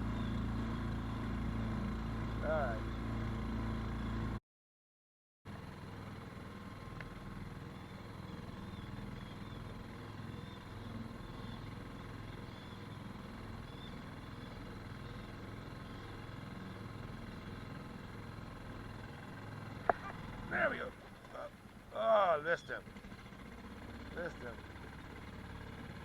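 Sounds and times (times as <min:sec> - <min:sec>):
outboard motor running: 0:00.0 - 0:04.4, 0:05.5 - 0:26.0.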